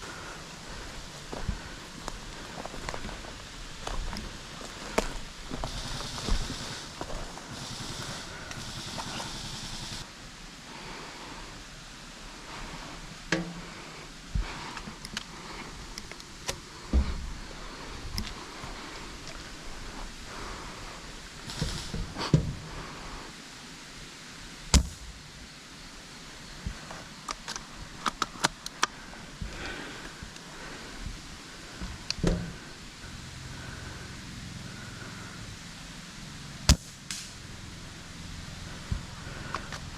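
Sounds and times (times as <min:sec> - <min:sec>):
steady hiss with rustling: 0:00.0 - 0:39.9.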